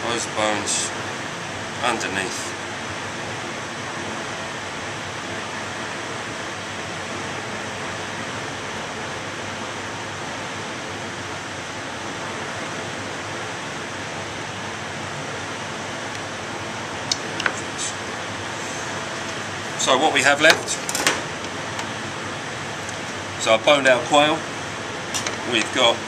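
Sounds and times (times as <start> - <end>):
ventilation system rushing: 0.0 - 26.0.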